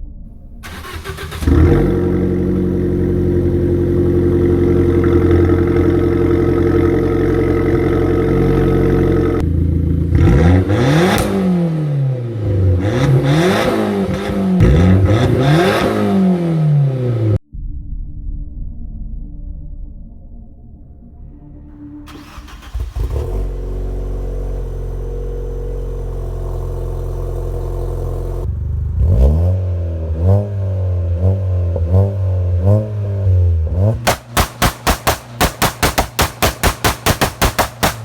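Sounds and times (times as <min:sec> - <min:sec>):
car engine idling and revving: 0:00.3 - 0:17.4, 0:22.1 - 0:38.0
car engine starting: 0:00.3 - 0:17.4, 0:22.1 - 0:38.0.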